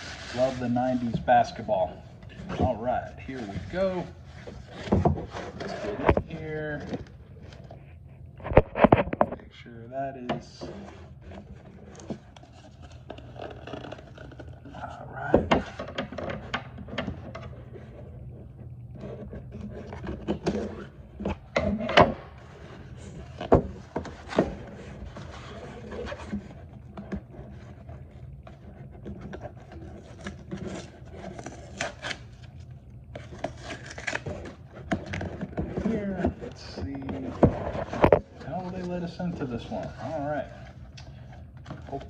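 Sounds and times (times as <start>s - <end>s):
cardboard and tape scraping: 0.0s - 9.2s, 10.5s - 42.0s.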